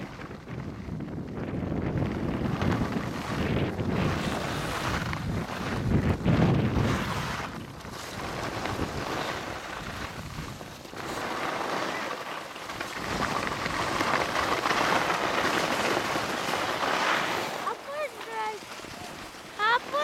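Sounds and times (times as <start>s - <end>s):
skis scraping over snow: 0.0s - 20.0s
wind on microphone: 0.0s - 20.0s.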